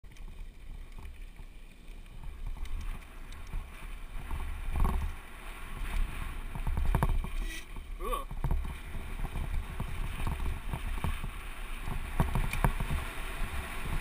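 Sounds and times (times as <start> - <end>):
bike rattling over bumps: 0.0 - 14.0
bike tyres rolling on gravel: 0.0 - 14.0
wind rumble on microphone: 0.1 - 14.0.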